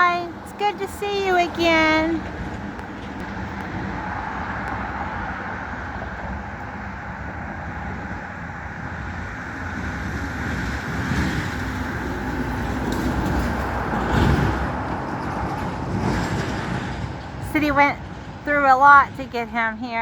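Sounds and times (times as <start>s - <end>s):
road traffic: 0.0s - 20.0s
vehicle passing: 0.3s - 17.7s.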